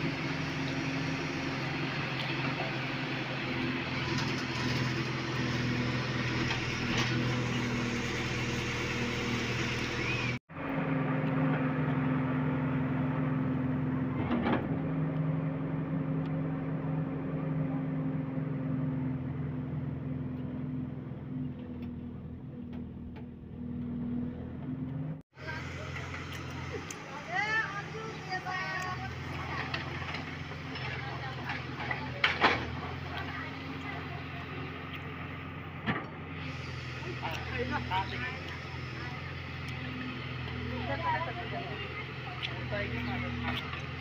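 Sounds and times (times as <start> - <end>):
steady mechanical hum: 0.0 - 44.0.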